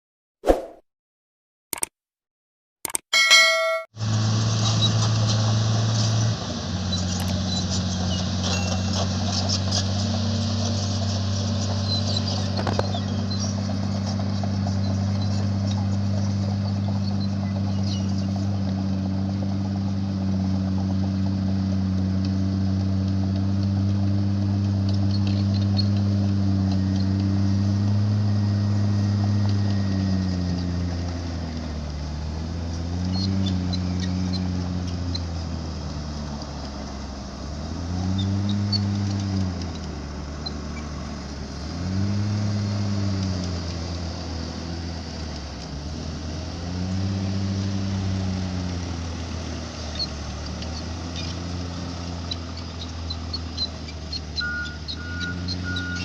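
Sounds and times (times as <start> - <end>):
diesel engine revving: 4.0 - 56.0.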